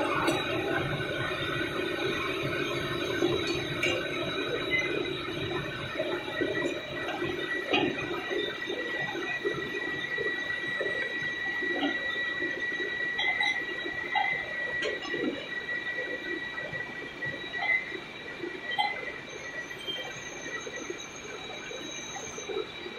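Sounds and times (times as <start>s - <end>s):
machinery whining and humming: 0.0s - 22.9s.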